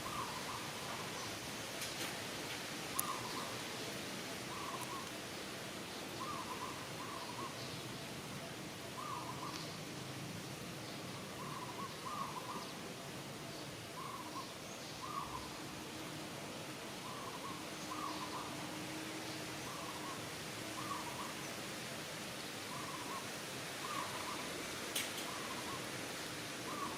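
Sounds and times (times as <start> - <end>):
steady background hiss: 0.0 - 26.9.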